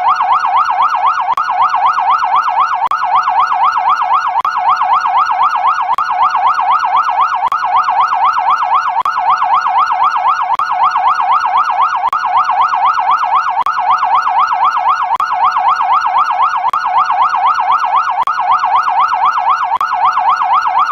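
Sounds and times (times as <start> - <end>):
police siren sweeping: 0.0 - 20.9.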